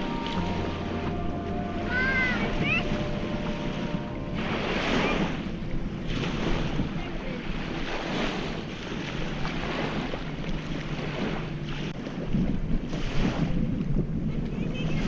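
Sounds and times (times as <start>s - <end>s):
small waves washing onto shore: 0.0s - 15.0s
wind noise on microphone: 0.0s - 15.0s.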